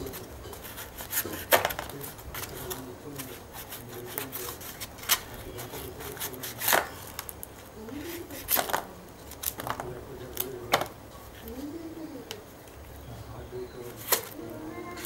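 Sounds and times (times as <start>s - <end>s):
knife cutting fruit: 0.0s - 12.9s, 13.8s - 15.0s.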